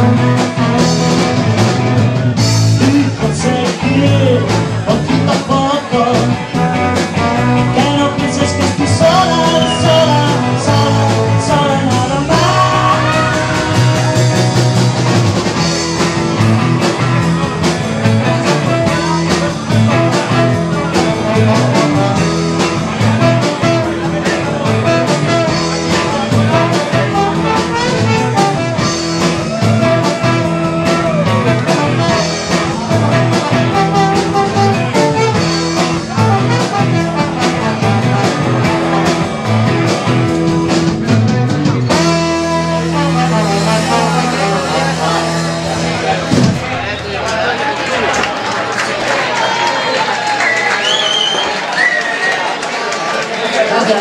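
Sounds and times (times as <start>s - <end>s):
trombone leading: 0.0s - 40.1s, 41.0s - 46.9s
rock and roll band playing: 0.0s - 54.0s.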